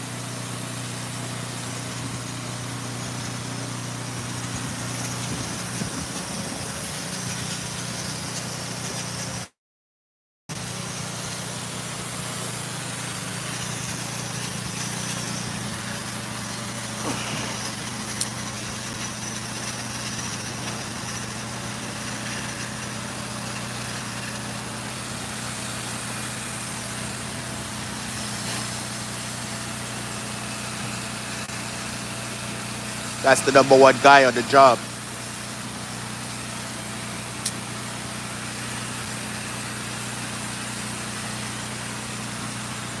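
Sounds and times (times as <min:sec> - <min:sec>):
engine running steadily: 0:00.0 - 0:09.5, 0:10.5 - 0:43.0
blasting nozzle hissing: 0:00.7 - 0:09.4, 0:10.6 - 0:42.8.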